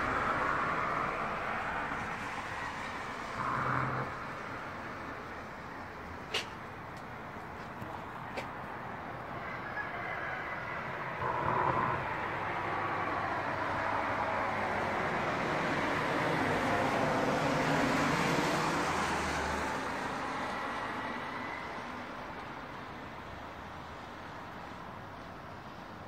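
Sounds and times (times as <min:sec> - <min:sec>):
road vehicle passing: 0:00.0 - 0:25.9.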